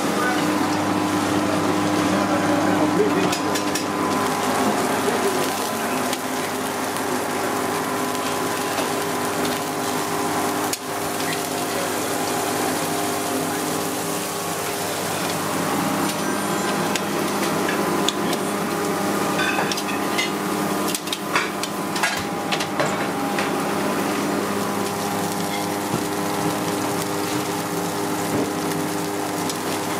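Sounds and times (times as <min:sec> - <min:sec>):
steaks sizzling on a griddle: 0:00.0 - 0:29.9.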